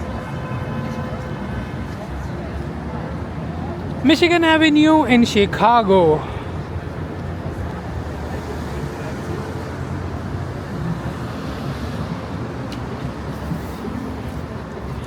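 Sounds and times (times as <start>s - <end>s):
cars passing on street: 0.0s - 15.0s.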